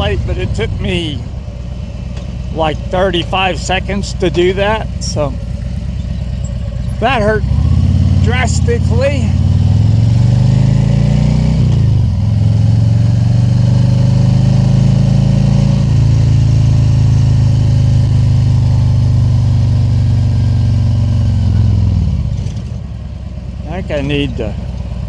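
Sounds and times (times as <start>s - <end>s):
motorcycle engine running on road: 0.0s - 25.0s.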